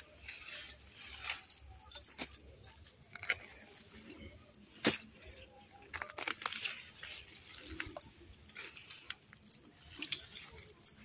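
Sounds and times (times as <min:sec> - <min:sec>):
crunching of earth and roots: 0:00.0 - 0:11.0.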